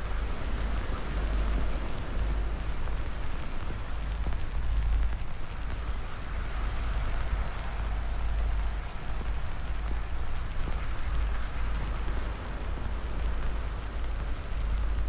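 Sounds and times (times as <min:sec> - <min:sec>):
fire crackling: 0:00.0 - 0:15.0
fire rushing and rumbling: 0:00.0 - 0:15.0.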